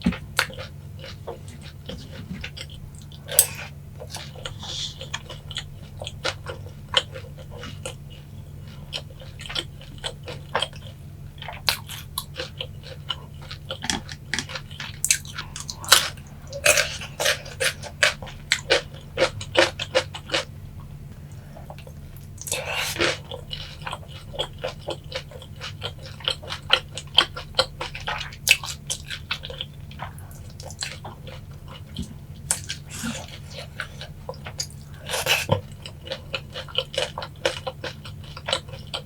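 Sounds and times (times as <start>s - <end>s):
chewing crispy chicken: 0.0s - 39.0s
faint low hum: 0.0s - 39.0s.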